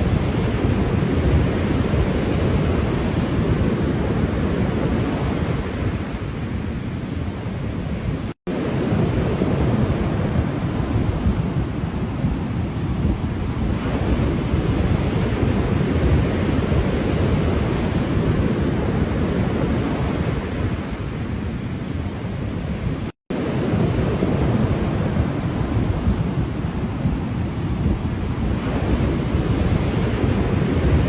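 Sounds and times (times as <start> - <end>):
ocean surf rushing: 0.0 - 31.0.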